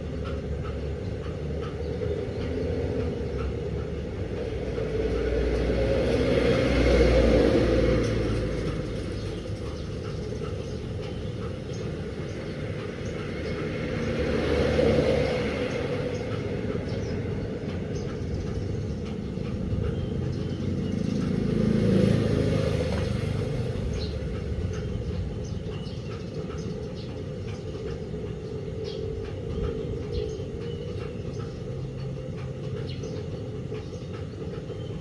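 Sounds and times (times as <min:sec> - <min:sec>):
washing machine rumbling: 0:00.0 - 0:35.0.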